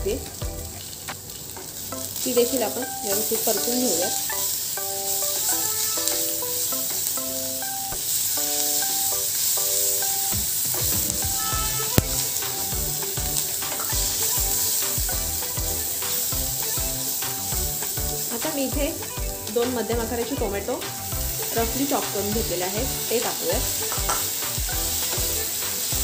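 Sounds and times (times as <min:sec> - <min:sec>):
background music of held notes: 0:00.0 - 0:00.9, 0:01.5 - 0:26.0
onions sizzling in hot oil: 0:00.0 - 0:26.0.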